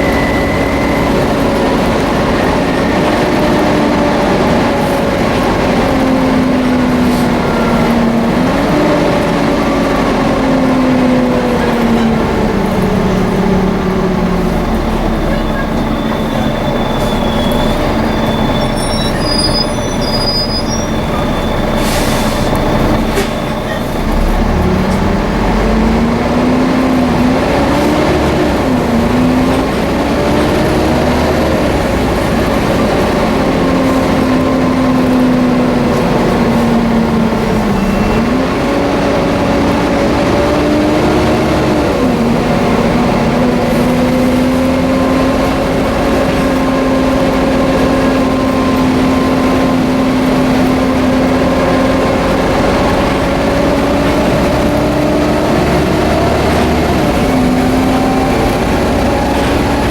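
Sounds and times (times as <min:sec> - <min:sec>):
bus engine running: 0:00.0 - 0:59.9
loud drivetrain whine: 0:00.0 - 0:59.9.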